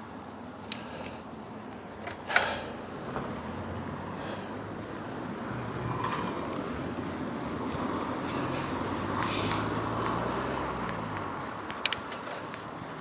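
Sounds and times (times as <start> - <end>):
passing car traffic: 0.0 - 13.0.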